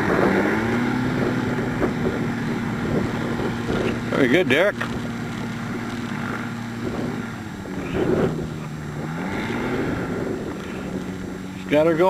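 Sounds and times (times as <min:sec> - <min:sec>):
ultralight aircraft engine and propeller: 0:00.0 - 0:12.0
wind on microphone: 0:00.0 - 0:12.0.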